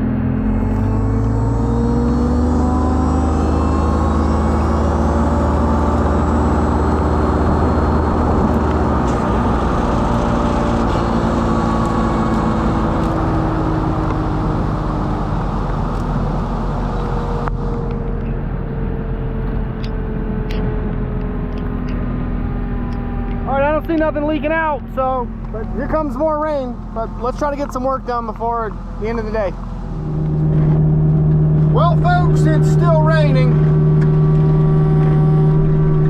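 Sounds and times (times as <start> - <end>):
excavator diesel engine running: 0.0 - 36.0
hydraulics working: 0.0 - 36.0.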